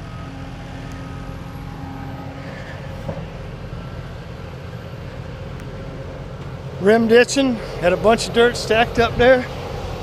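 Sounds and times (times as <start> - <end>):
diesel machinery engine rumble: 0.0 - 10.0
faint whining tones: 0.0 - 10.0.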